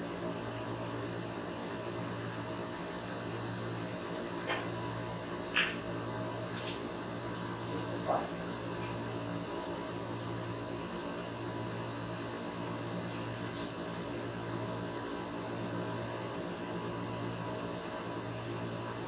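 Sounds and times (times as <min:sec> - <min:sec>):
machine hum and hiss: 0:00.0 - 0:19.0.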